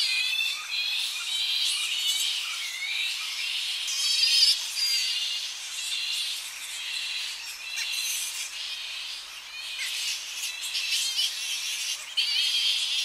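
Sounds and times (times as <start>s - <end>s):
flying foxes chattering and squawking: 0.0s - 13.0s.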